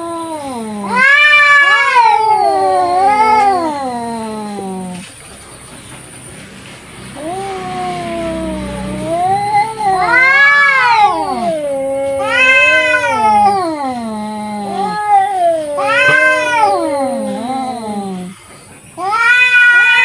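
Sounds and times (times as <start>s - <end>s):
cats yowling: 0.0s - 20.0s.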